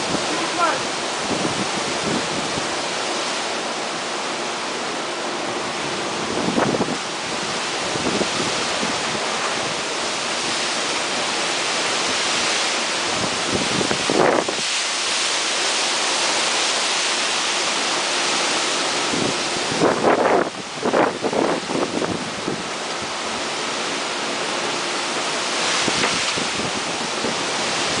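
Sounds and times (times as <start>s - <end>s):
wind gusts buffeting microphone: 0.0s - 4.2s, 5.2s - 15.2s, 18.4s - 28.0s
heavy rain pouring: 0.0s - 28.0s.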